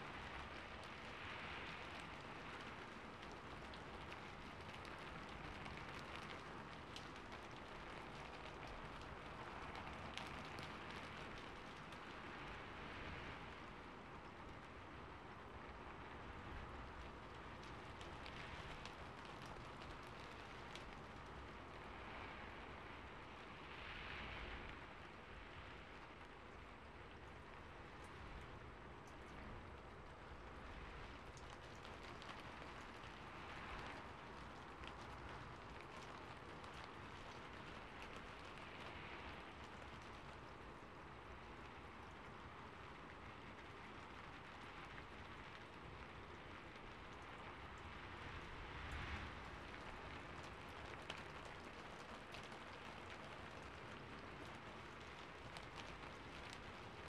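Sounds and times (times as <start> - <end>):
soft steady rain: 0.0 - 57.0.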